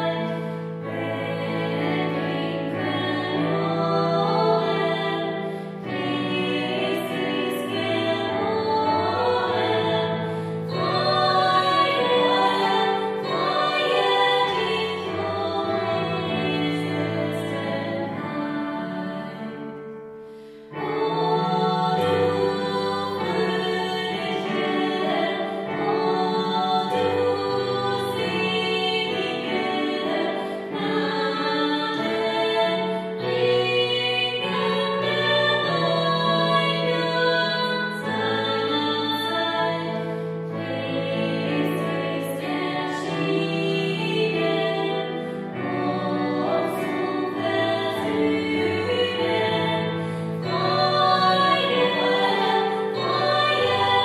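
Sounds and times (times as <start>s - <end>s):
women singing a carol: 0.0s - 19.9s, 20.7s - 54.0s
digital piano: 0.0s - 54.0s.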